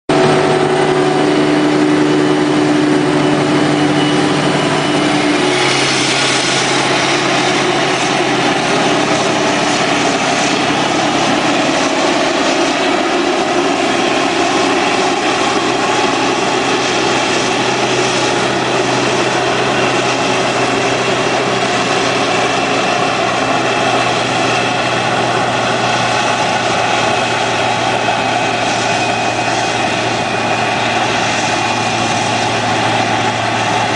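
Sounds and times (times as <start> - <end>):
forage harvester machine drone: 0.1 - 33.9
hissing rush: 0.1 - 33.9.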